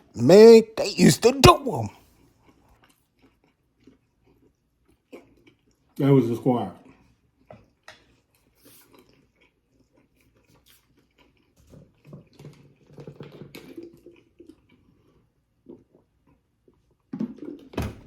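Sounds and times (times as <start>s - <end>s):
chewing and smacking food: 2.2s - 6.0s, 6.8s - 17.7s.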